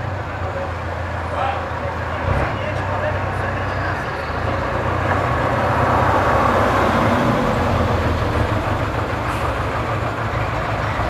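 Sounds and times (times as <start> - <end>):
vehicles passing: 0.0 - 11.0.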